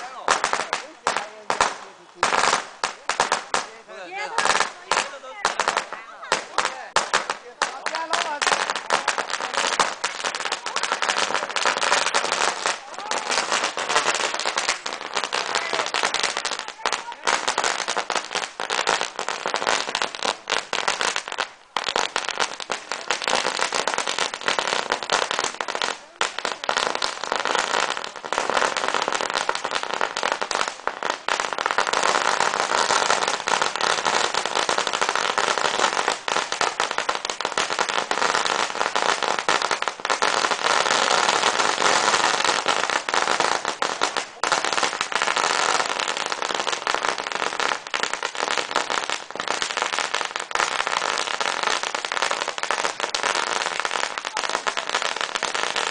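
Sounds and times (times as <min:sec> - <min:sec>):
firecrackers crackling: 0:00.0 - 0:55.9.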